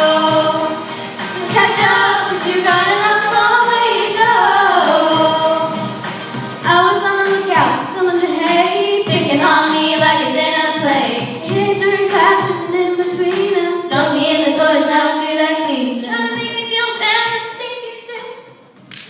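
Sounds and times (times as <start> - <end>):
girl singing: 0.0 - 5.8, 6.6 - 18.4.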